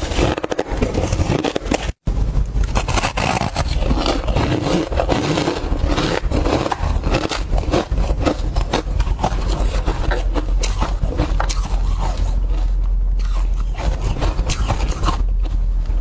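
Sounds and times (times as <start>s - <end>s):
ice scraping and crackling: 0.0s - 2.0s, 2.6s - 16.0s.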